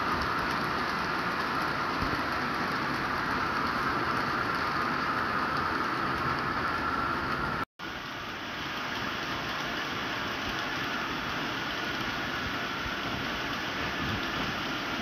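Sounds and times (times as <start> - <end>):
model train wagons rolling: 0.0 - 7.6, 8.6 - 15.0.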